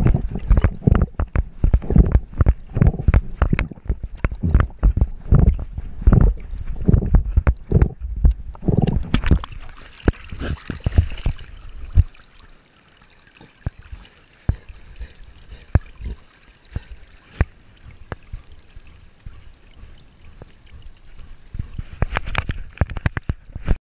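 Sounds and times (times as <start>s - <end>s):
water sloshing and lapping: 0.0s - 23.8s
water splashes: 0.0s - 23.8s.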